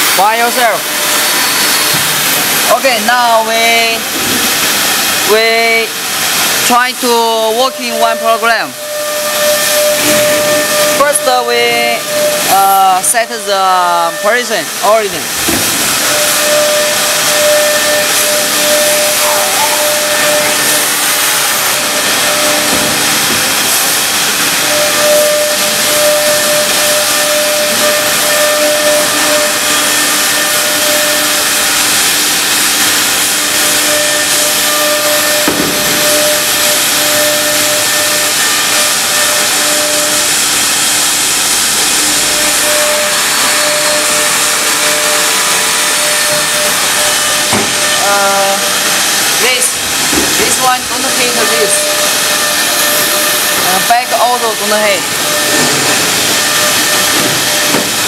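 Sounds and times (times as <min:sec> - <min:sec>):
router machinery rushing hiss: 0:00.0 - 0:58.0
steady machine hum: 0:00.0 - 0:58.0.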